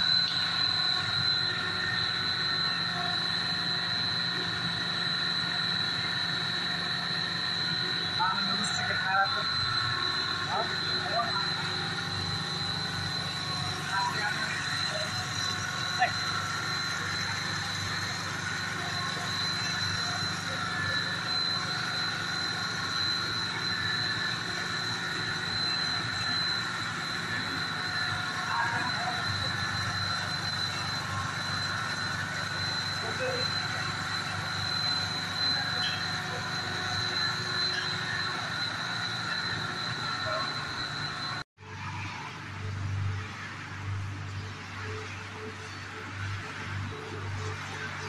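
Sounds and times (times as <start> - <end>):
high-pitched machine whine: 0.0 - 48.0
machine hum: 0.0 - 48.0.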